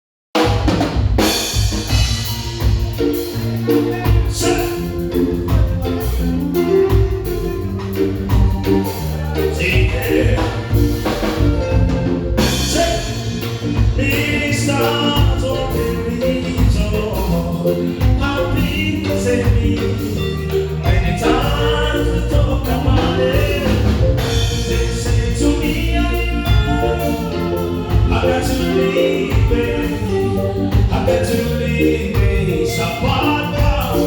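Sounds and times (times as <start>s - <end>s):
drum kit beat: 0.3s - 34.0s
bass line: 0.4s - 34.0s
keyboard chords: 0.4s - 34.0s.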